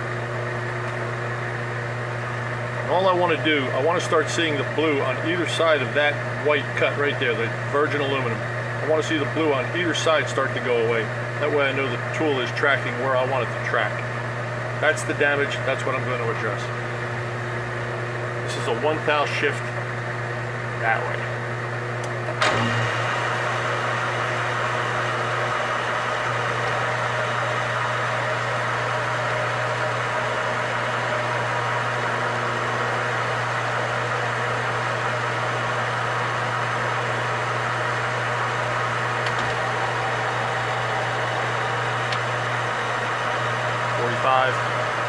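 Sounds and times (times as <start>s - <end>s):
metal lathe running: 0.1s - 45.0s.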